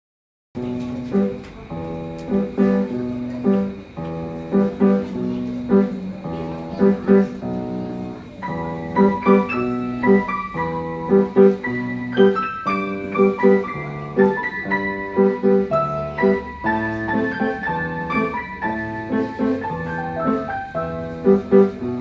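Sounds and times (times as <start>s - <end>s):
piano music: 0.6s - 22.0s.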